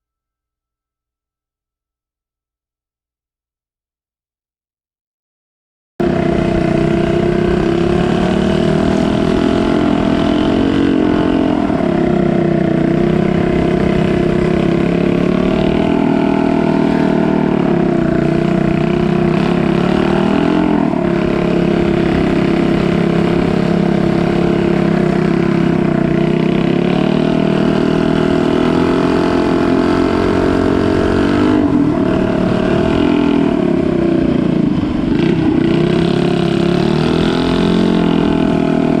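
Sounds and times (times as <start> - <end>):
boat engine running: 6.0 - 39.0.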